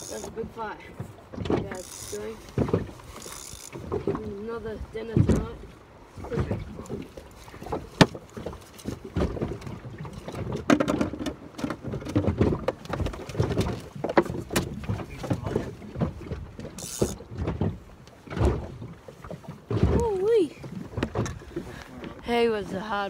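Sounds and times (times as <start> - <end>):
knocks and thumps on inflatable boat: 0.0 - 22.8.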